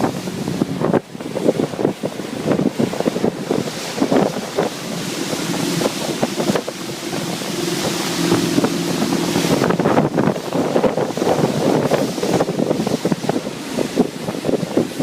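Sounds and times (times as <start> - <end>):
motorboat engine running: 0.0 - 15.0
wind buffeting microphone: 0.0 - 15.0.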